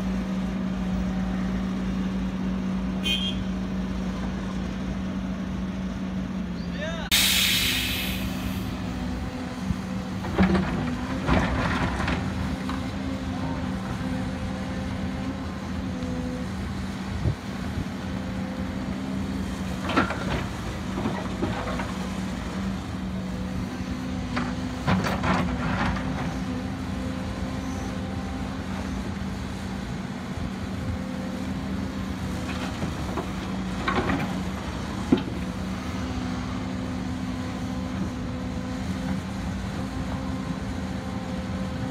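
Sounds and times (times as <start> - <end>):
excavator engine and hydraulic drone: 0.0 - 41.9.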